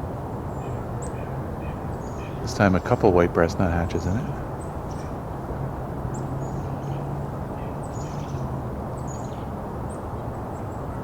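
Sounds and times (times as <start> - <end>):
chickadees calling: 0.5 - 5.4, 6.1 - 10.0.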